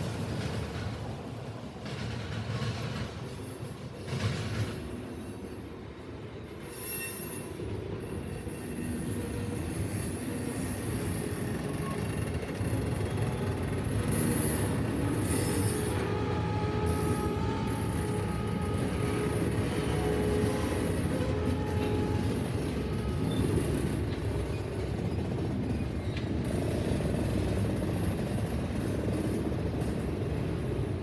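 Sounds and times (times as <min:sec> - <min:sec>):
steel wheels squealing on rails: 0:00.0 - 0:31.0
train rumbling on track: 0:00.0 - 0:31.0.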